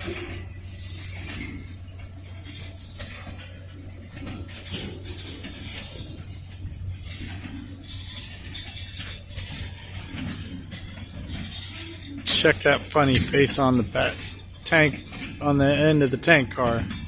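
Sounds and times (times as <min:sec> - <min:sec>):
railcar mover engine droning: 0:00.0 - 0:17.0.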